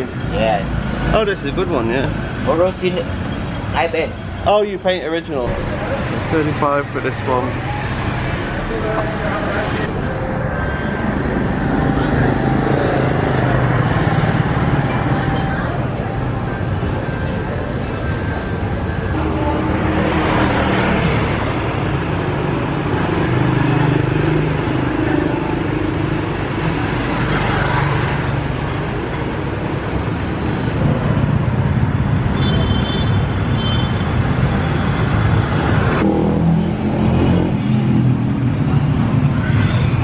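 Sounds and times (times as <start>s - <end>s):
city street traffic: 0.0s - 40.0s
motorbike engines passing: 0.0s - 40.0s.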